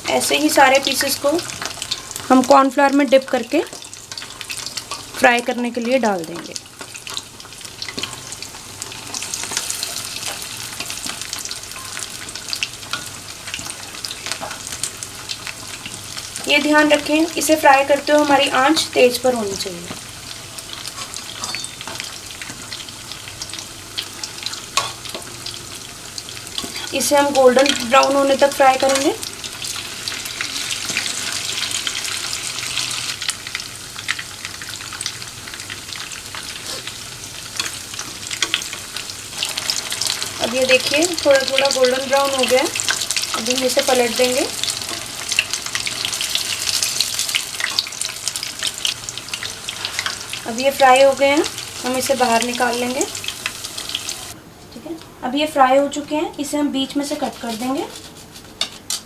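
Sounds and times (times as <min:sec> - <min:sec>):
bread deep-frying in oil: 0:00.0 - 0:54.4.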